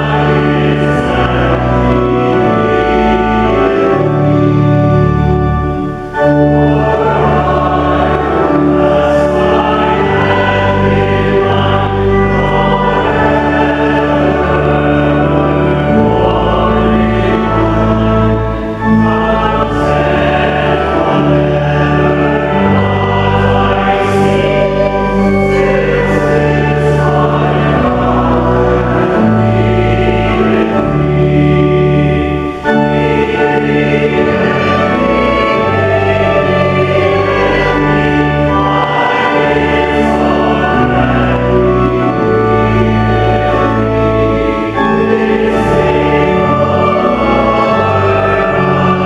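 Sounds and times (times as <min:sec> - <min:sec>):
accompaniment chords with bass: 0:00.0 - 0:49.0
choir singing a hymn: 0:00.0 - 0:49.0.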